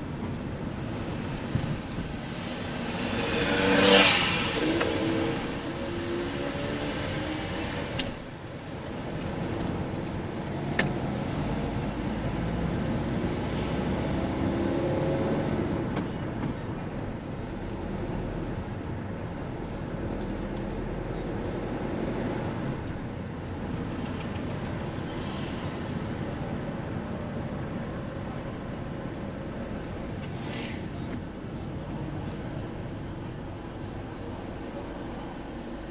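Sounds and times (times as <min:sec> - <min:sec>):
car engine: 0:00.0 - 0:35.9
road noise: 0:00.0 - 0:35.9.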